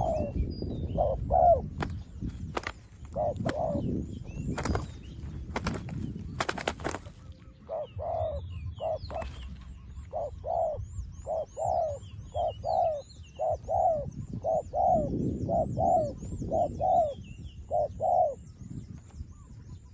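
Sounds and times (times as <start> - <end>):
dove cooing: 0.0 - 4.0, 6.4 - 18.5.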